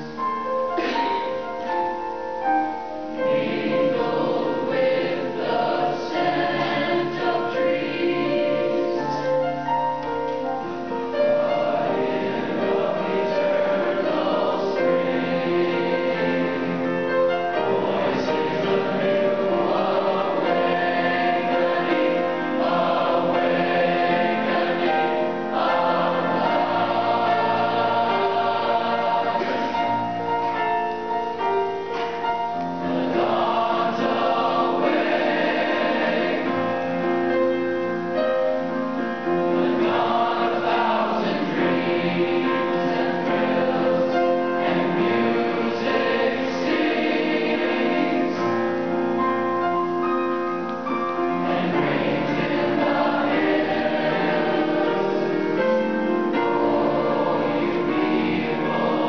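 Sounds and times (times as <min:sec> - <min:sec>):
choir singing held notes: 0:00.0 - 0:59.0.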